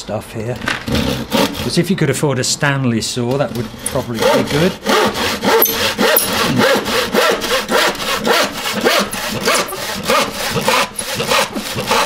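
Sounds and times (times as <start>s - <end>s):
hand saw rasping through wood: 0.9s - 2.0s, 3.4s - 12.0s.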